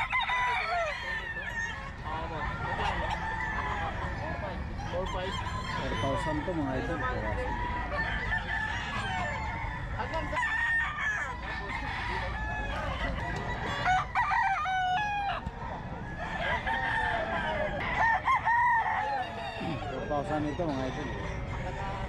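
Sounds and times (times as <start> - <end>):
rooster crowing loudly: 0.0 - 15.4, 16.1 - 22.0.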